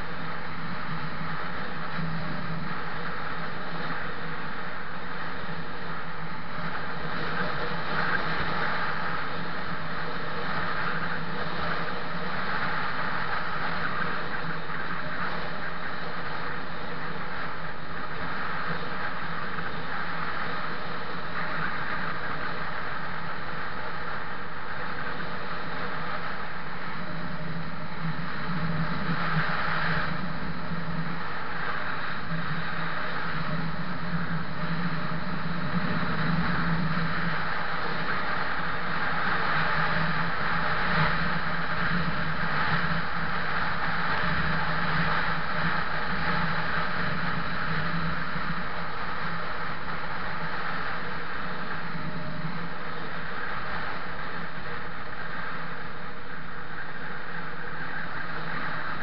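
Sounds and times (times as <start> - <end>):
low engine hum: 0.0 - 59.0
vehicle road noise: 0.0 - 59.0
wind rush on microphone: 0.0 - 59.0.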